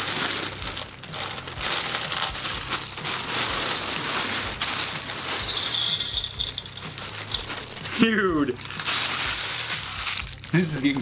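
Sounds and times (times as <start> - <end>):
cereal pouring into metal bowl: 0.0 - 10.3
plastic bag crinkling: 0.0 - 11.0.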